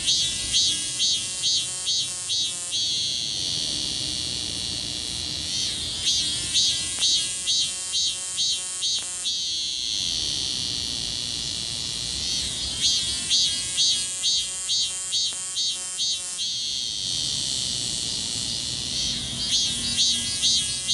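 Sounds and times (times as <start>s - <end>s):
cicada buzzing: 0.0s - 20.9s.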